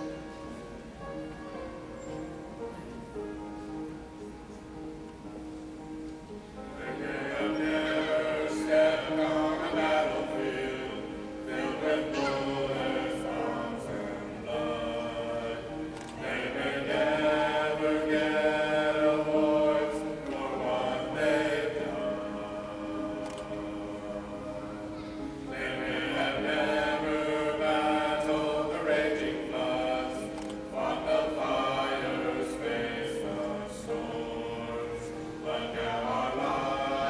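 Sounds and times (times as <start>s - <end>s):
group singing in harmony: 6.7s - 37.0s.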